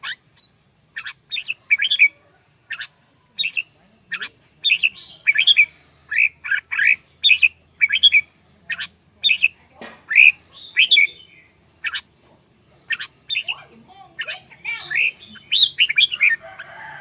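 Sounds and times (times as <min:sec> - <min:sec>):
bird chirping rapidly: 0:00.0 - 0:17.0.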